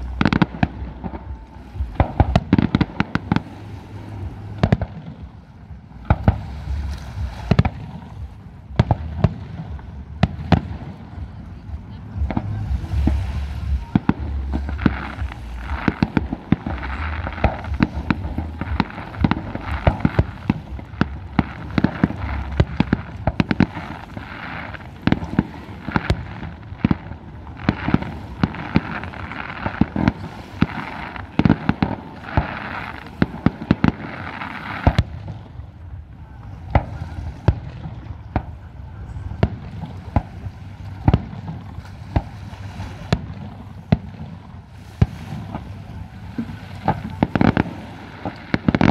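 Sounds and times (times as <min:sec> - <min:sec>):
fireworks bursting: 0:00.0 - 0:35.8, 0:36.5 - 0:48.9.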